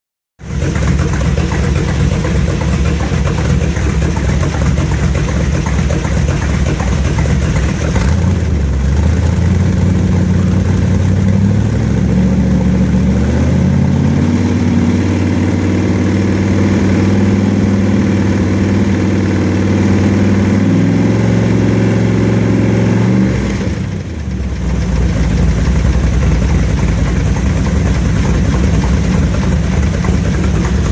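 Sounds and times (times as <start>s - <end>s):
car engine running and revving: 0.4s - 30.9s.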